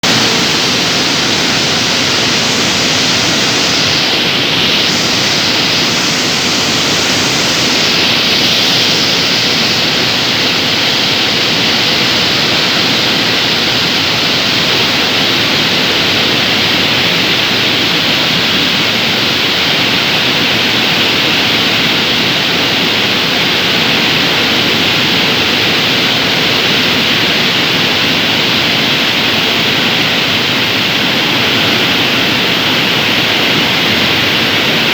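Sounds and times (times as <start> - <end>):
loud furnace hissing: 0.0 - 34.9.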